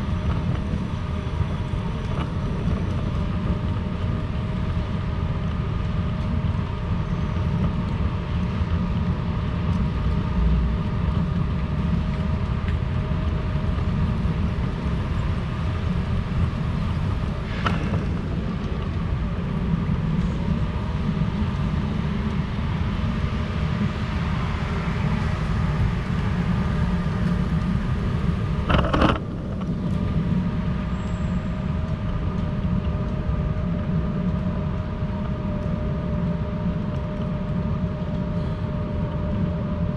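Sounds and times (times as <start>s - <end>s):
constant mechanical hum: 0.0s - 39.9s
low rumble of traffic: 0.0s - 39.9s.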